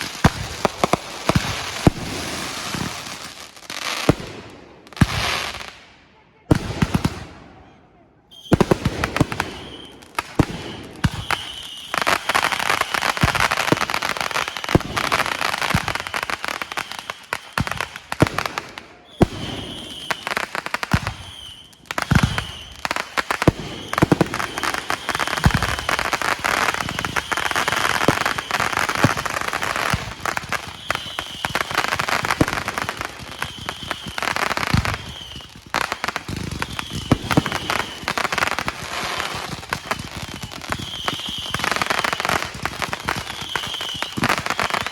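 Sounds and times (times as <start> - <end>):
fireworks crackling and popping: 0.0 - 7.7, 8.3 - 44.9
low fireworks booms: 0.0 - 7.8, 8.4 - 44.9.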